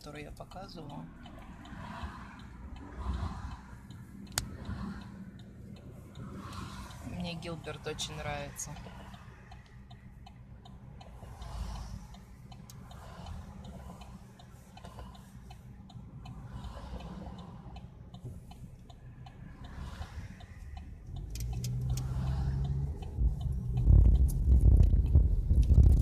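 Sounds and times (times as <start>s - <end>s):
road rumble in car: 0.0s - 26.0s.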